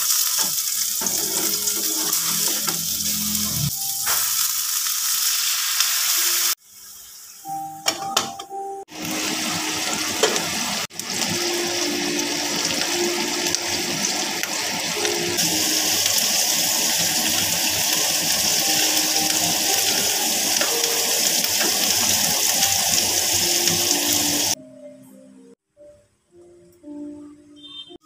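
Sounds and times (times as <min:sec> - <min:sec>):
meat sizzling in a pan: 0:00.0 - 0:07.4, 0:08.9 - 0:24.6.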